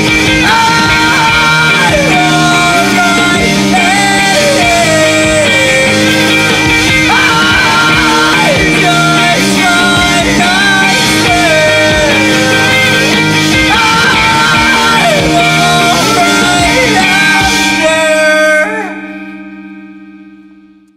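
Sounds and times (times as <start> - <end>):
rock song with singing: 0.0 - 19.7.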